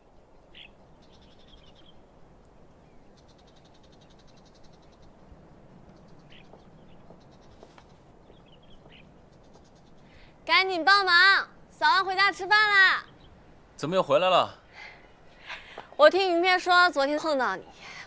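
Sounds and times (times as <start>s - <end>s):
frogs and birds chirping: 0.0s - 18.0s.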